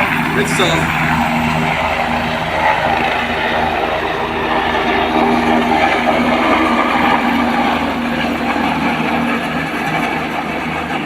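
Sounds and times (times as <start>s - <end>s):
helicopter engine and rotor blades: 0.0s - 11.0s.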